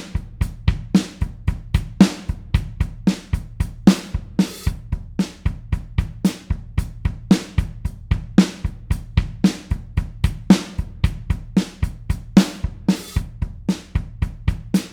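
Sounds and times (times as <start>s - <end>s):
drum kit rock beat: 0.0s - 14.9s.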